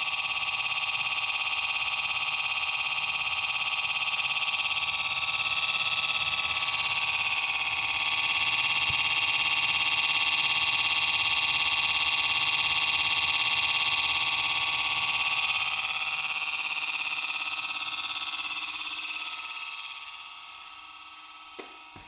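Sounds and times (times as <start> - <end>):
refrigerator high-pitched buzz: 0.0 - 22.0.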